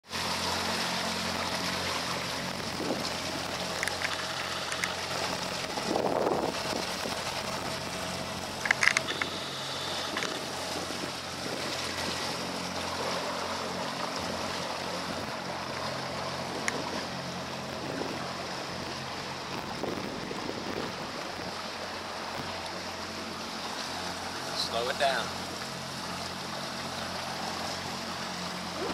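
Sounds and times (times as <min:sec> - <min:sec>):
outboard motor idling: 0:00.0 - 0:28.9
water noise: 0:00.0 - 0:28.9
wind: 0:00.0 - 0:28.9.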